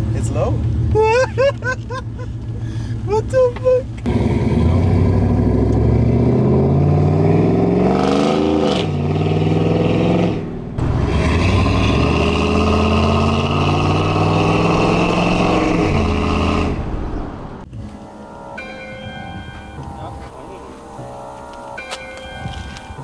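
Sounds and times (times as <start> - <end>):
truck engine accelerating: 0.0 - 23.0.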